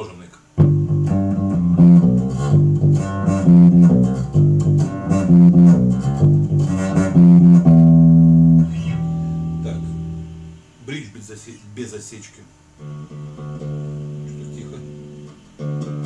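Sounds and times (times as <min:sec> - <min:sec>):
electric bass plucked notes: 0:00.6 - 0:11.0, 0:12.8 - 0:16.0.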